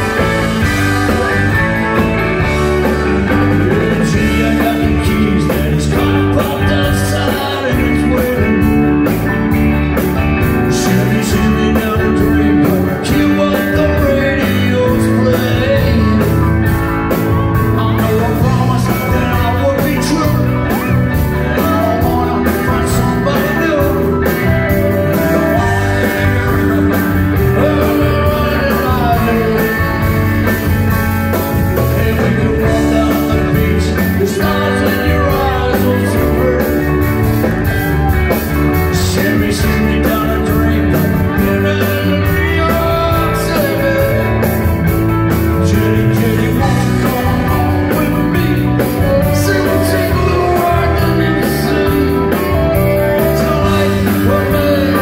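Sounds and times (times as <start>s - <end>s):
electric guitars: 0.0s - 55.0s
person singing lead vocals: 0.0s - 55.0s
steady drum beat: 0.0s - 55.0s.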